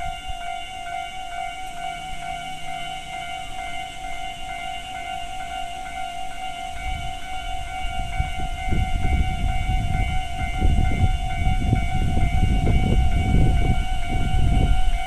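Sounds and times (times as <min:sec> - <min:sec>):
level-crossing bell dinging: 0:00.0 - 0:15.0
train rumble: 0:00.0 - 0:15.0.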